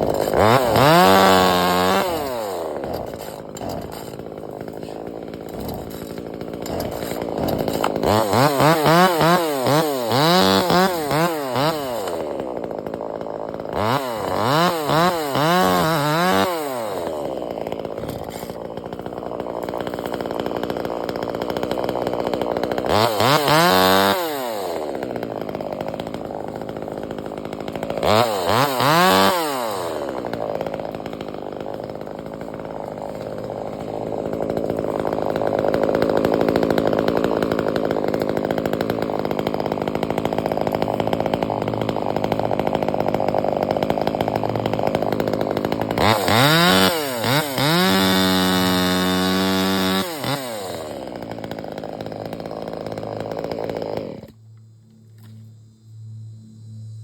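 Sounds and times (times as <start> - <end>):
chainsaw idling and revving: 0.0 - 55.4.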